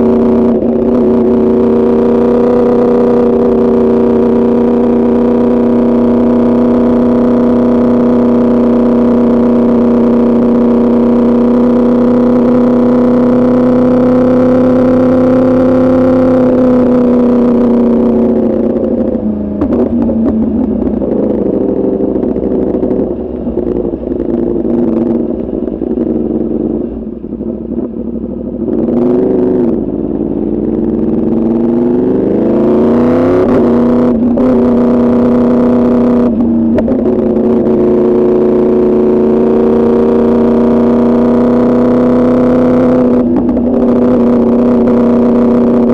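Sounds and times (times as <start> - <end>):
motorcycle engine revving: 0.0 - 45.9
motorcycle engine running: 0.0 - 45.9.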